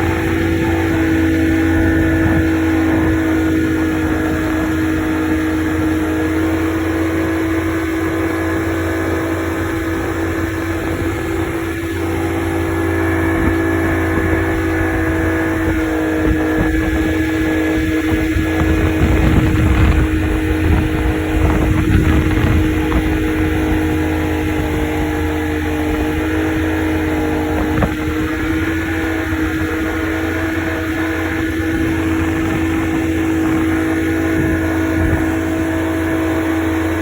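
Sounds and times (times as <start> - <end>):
low rushing rumble: 0.0 - 37.0
motorboat engine running: 0.0 - 37.0.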